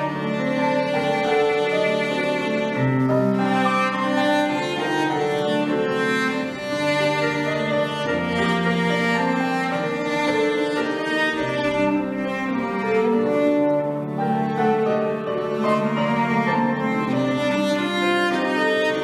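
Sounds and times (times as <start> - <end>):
cello and violin melody: 0.0 - 19.0.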